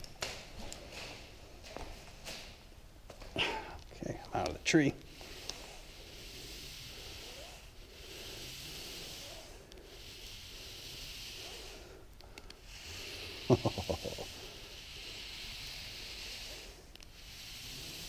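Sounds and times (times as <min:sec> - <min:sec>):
rope hissing: 0:03.2 - 0:18.0.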